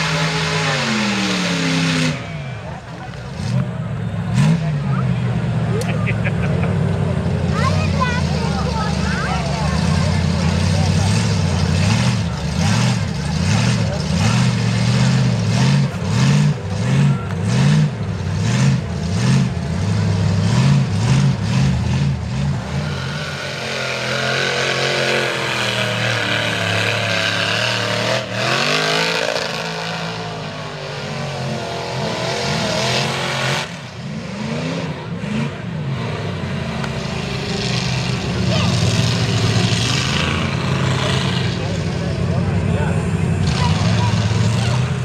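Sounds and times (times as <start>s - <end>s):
truck engine revving: 0.0s - 45.0s.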